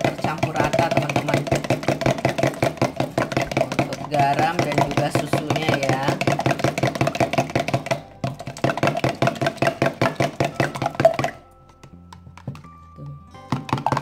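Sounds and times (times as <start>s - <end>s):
fork whisking in plastic cup: 0.0s - 12.8s, 13.4s - 14.0s.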